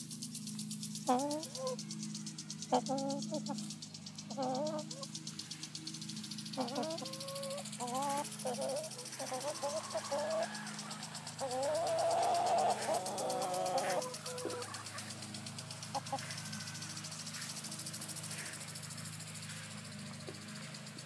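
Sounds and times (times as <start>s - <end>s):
hens clucking: 1.0s - 5.6s, 6.2s - 19.0s.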